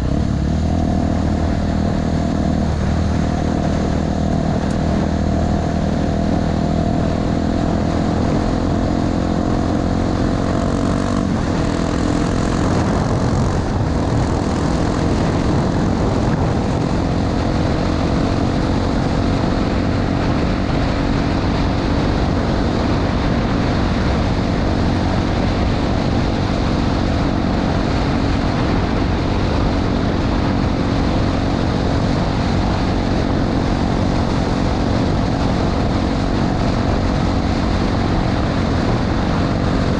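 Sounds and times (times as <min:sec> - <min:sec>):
continuous rushing noise: 0:00.0 - 0:39.9
motorcycle engine cruising: 0:00.0 - 0:39.9.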